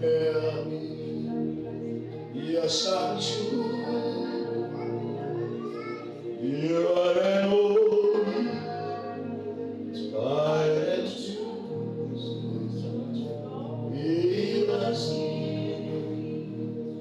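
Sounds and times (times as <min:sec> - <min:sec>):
gospel worship singing: 0:00.0 - 0:17.0
held instrumental chords: 0:00.0 - 0:17.0.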